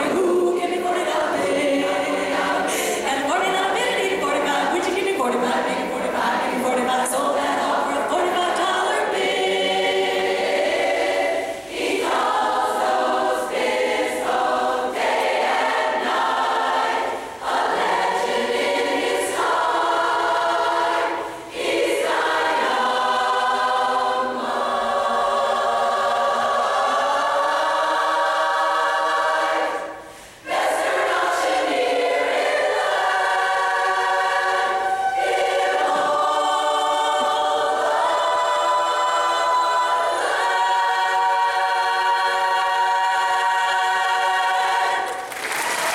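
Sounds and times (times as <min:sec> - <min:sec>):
women's chorus singing in harmony: 0:00.0 - 0:45.9.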